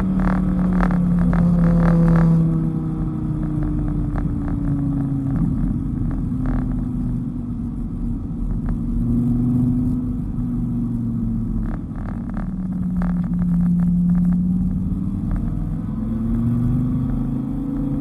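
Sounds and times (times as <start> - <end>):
car engine running: 0.0 - 18.0
tyre and road noise: 0.0 - 18.0.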